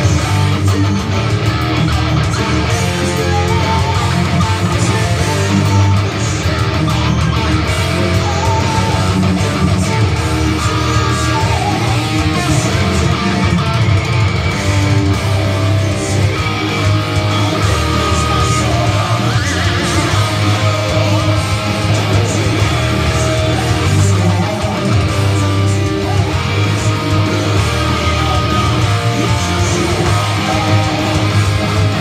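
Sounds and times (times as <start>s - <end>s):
metal electric guitar playing: 0.0s - 32.0s.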